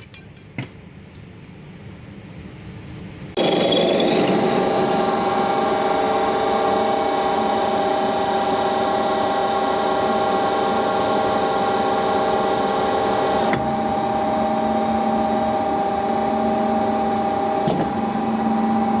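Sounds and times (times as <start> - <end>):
machine tool whining: 3.4 - 19.0.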